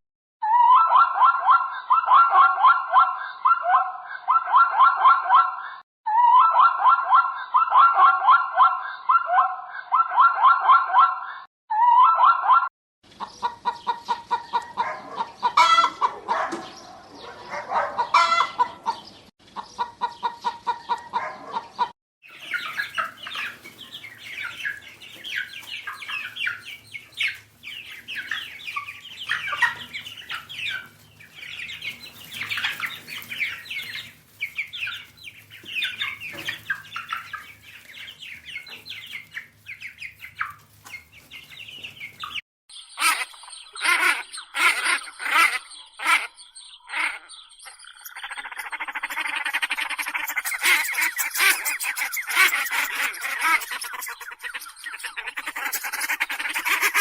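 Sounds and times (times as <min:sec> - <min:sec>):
chickens clucking: 0:00.4 - 0:57.0
chicks cheeping: 0:00.4 - 0:57.0.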